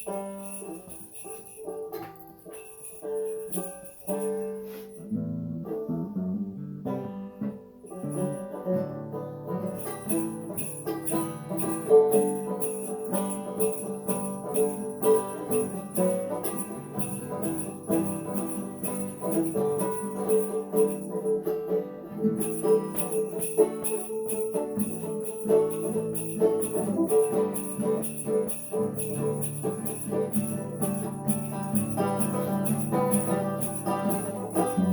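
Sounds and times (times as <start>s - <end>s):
sleigh bells shaken: 0.0s - 5.1s, 7.9s - 8.6s, 9.6s - 21.6s, 22.2s - 34.9s
acoustic guitar: 0.0s - 34.9s
plucked banjo: 0.0s - 34.9s.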